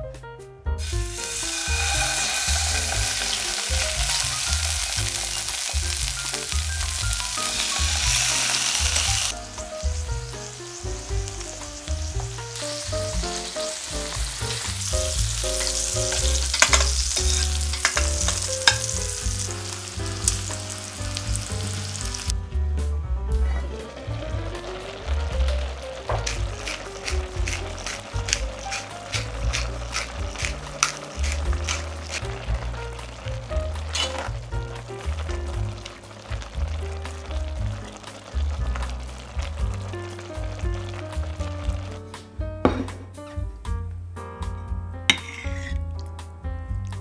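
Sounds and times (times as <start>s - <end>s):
soft piano music: 0.0s - 47.0s
meat sizzling in oil: 0.8s - 22.3s, 23.6s - 42.2s, 45.2s - 45.8s.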